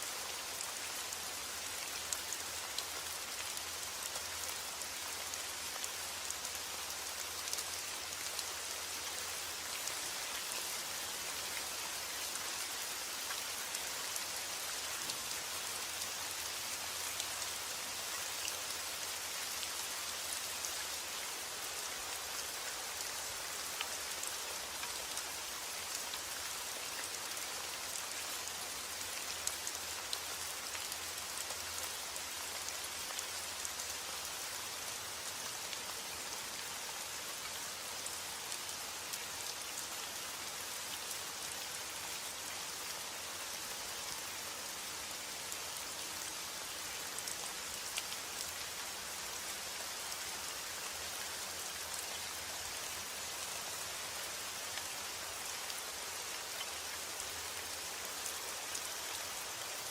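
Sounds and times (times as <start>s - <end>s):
rain ticking on hard surface: 0.0s - 59.9s.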